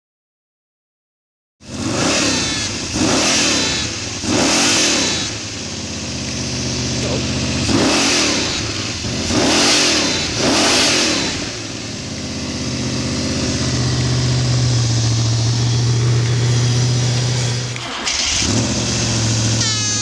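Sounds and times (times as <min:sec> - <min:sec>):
engine revving with droning hoot: 0:01.6 - 0:20.0.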